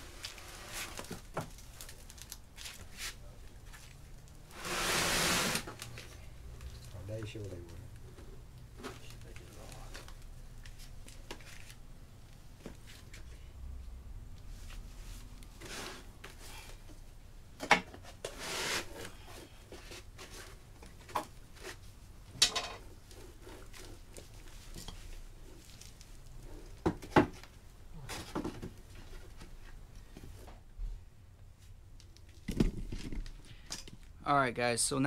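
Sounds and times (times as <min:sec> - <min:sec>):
low steady background hum: 0:05.4 - 0:35.0.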